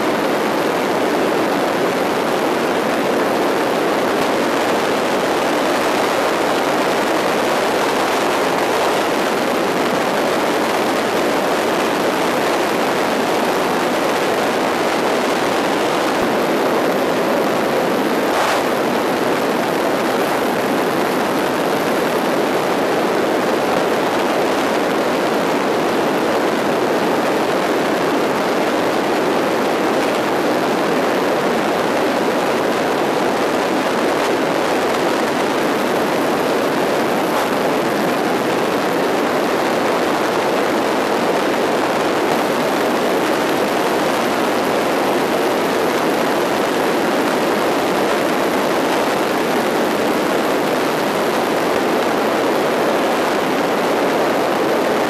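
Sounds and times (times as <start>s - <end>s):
aircraft engine noise: 0.0s - 55.0s.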